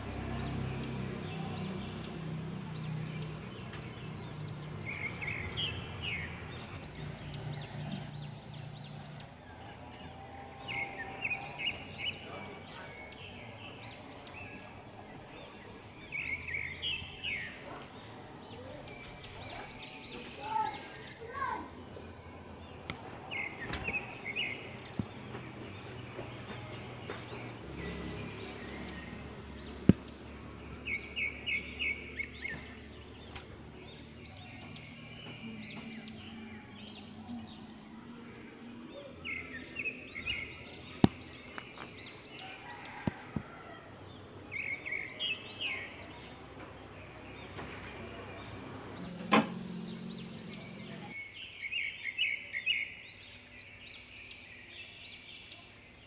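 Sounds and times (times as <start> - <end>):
birds twittering: 0.1 - 56.0.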